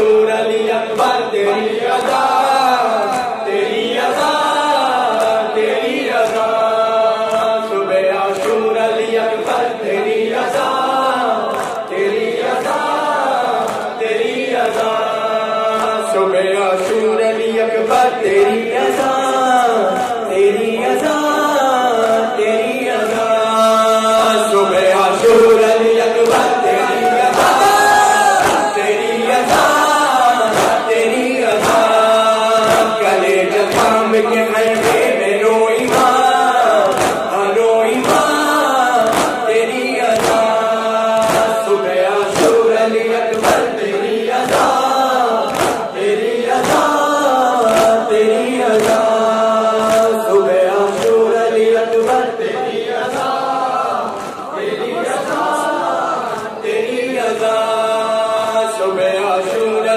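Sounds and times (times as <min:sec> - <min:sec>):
crowd of men chanting: 0:00.0 - 0:59.9
men singing a lament: 0:00.0 - 0:59.9.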